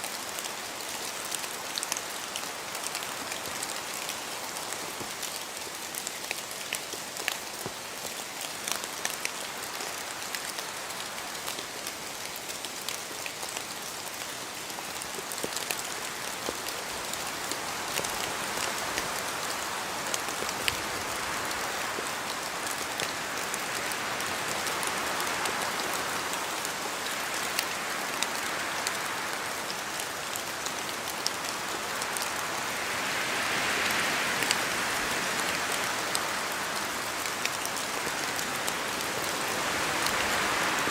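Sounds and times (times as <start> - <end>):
steady rain in forest: 0.0 - 40.9
water dripping from trees: 0.0 - 40.9
wind gusting through trees: 0.0 - 40.9.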